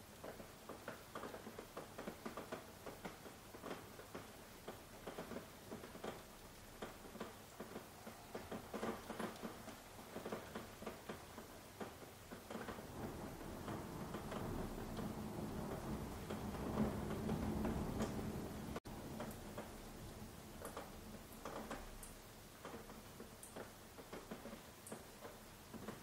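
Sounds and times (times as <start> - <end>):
faint rain hiss: 0.0 - 26.0
raindrops tapping: 0.0 - 26.0.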